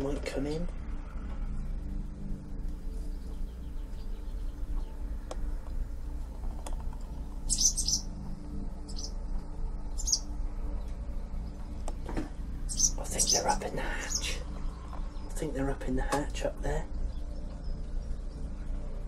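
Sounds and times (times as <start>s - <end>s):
steady low hum: 0.0s - 19.0s
small birds chirping: 2.6s - 19.0s.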